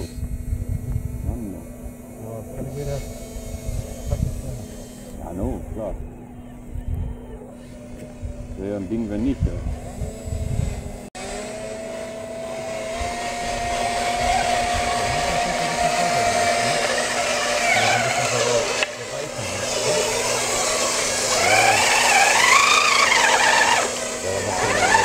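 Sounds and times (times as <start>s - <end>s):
small electric motors whining: 0.0s - 25.0s.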